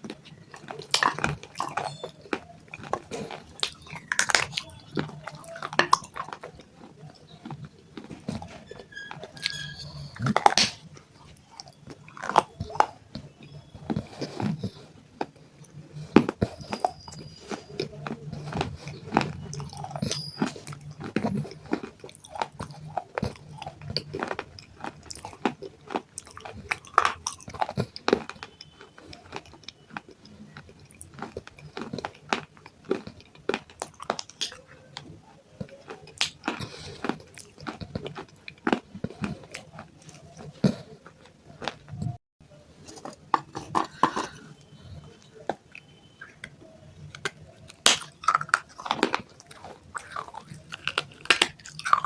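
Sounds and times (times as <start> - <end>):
crunchy biting and chewing: 0.0 - 52.0.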